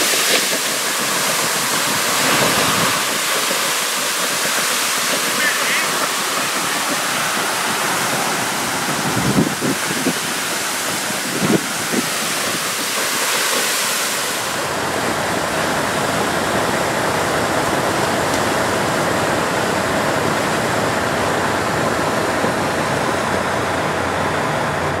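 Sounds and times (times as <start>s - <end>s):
water gushing from hydrant: 0.0s - 25.0s.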